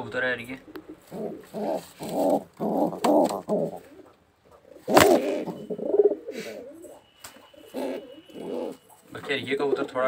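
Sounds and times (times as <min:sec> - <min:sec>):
pigeon cooing: 0:00.7 - 0:09.9.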